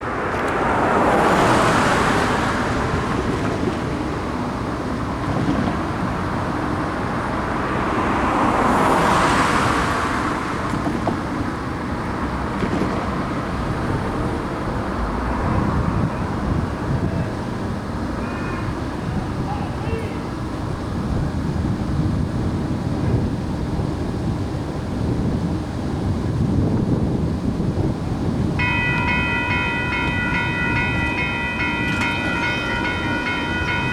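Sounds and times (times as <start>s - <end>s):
cars passing by: 0.0s - 33.9s.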